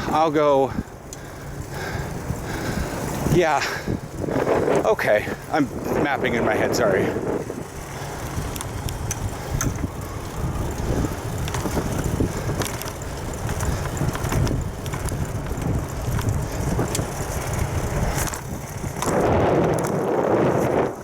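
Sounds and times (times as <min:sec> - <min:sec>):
bicycle rumble: 0:00.0 - 0:21.0
bike clicks and rattles: 0:00.0 - 0:21.0
wind buffeting microphone: 0:00.0 - 0:21.0.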